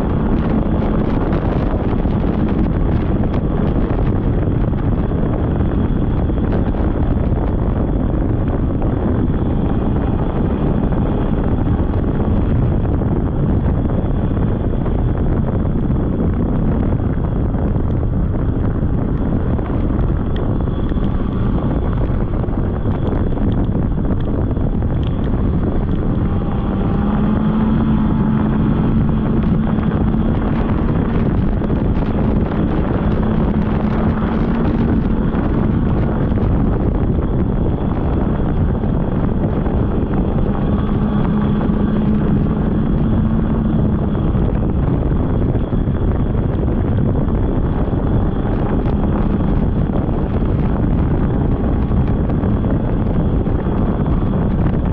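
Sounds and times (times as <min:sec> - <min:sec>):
snowmobile engine running: 0:00.0 - 0:54.9
wind noise on microphone: 0:00.0 - 0:54.9.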